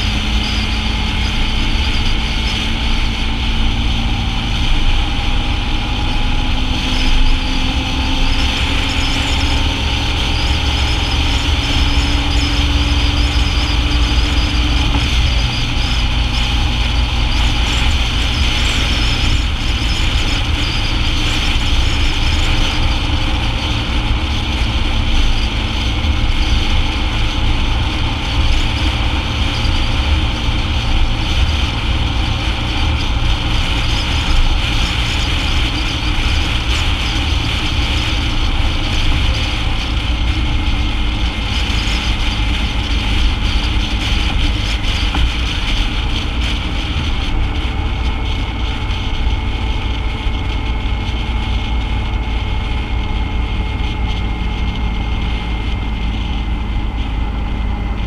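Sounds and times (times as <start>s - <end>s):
motorcycle engine and road noise: 0.0s - 58.0s
wind rumble on microphone: 0.0s - 58.0s.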